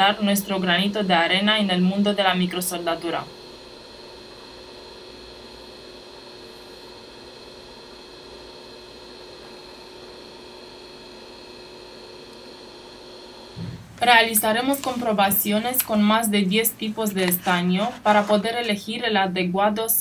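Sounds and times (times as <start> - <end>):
electrical hum with faint hiss: 0.0 - 20.0.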